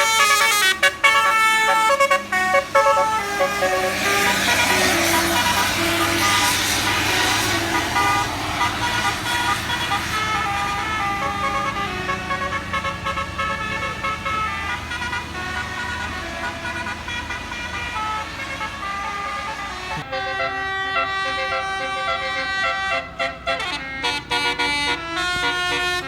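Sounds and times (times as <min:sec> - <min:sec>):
bus air horns playing a tune: 0:00.0 - 0:26.0
engine and road noise: 0:00.0 - 0:26.0.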